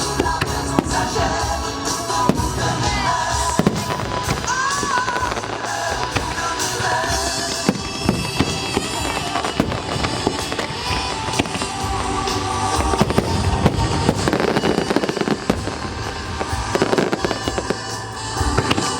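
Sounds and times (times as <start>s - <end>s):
fireworks bangs: 0.0s - 18.9s
music playing: 0.0s - 18.9s.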